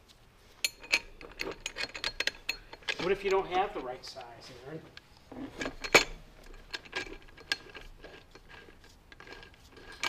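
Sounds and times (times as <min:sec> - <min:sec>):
metallic clicks of bolts handled: 0:00.6 - 0:04.3, 0:04.9 - 0:10.0.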